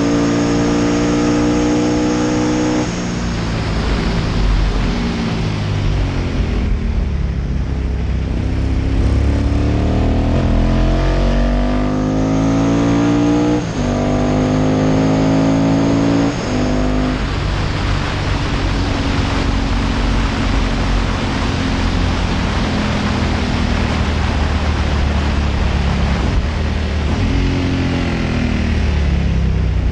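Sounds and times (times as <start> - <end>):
racing engine at full throttle: 0.0 - 29.9
rush of wind: 0.0 - 29.9.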